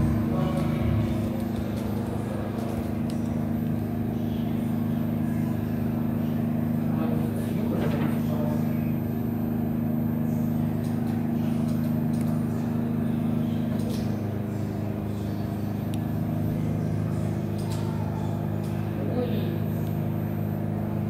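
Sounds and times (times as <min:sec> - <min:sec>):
aircraft engine drone through speakers: 0:00.0 - 0:21.0.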